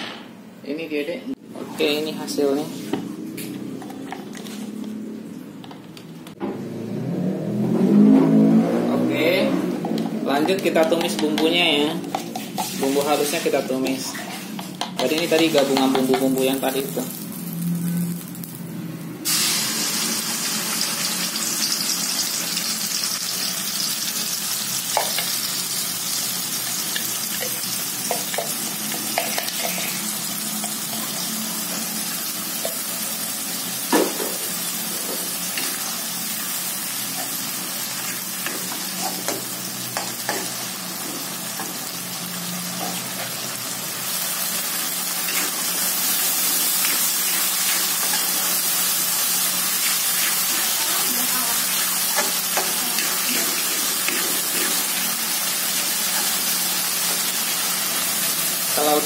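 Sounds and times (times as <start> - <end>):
spice paste sizzling in hot oil: 10.3 - 18.6, 19.2 - 59.0.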